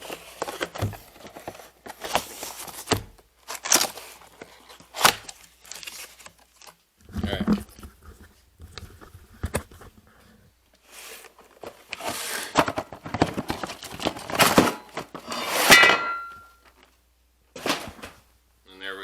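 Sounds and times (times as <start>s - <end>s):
packaging rustling: 0.0s - 9.9s, 10.8s - 16.9s.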